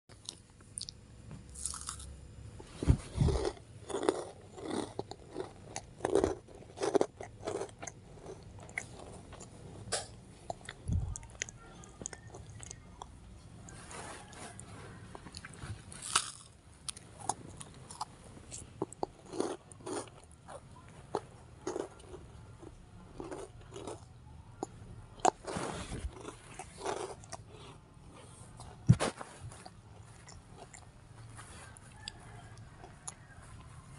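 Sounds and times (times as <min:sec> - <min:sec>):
crunchy chewing: 0:00.1 - 0:33.9.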